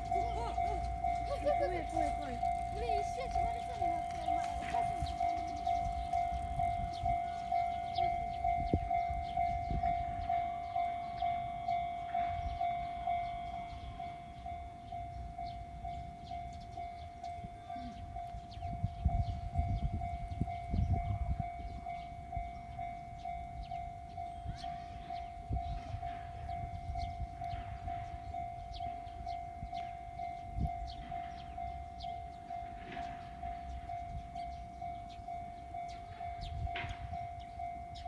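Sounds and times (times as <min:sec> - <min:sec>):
level crossing bell ringing: 0:00.0 - 0:38.0
train rumbling past: 0:00.0 - 0:38.0.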